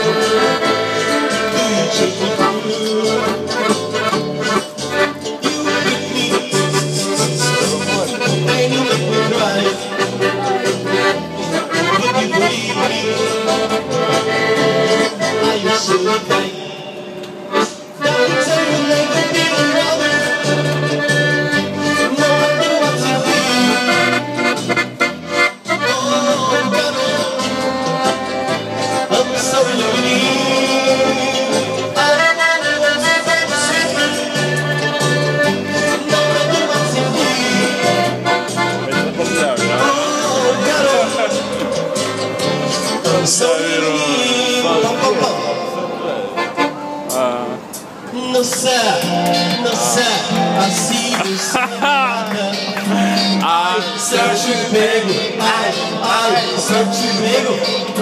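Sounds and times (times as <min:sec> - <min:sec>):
accordion playing: 0:00.0 - 0:58.0.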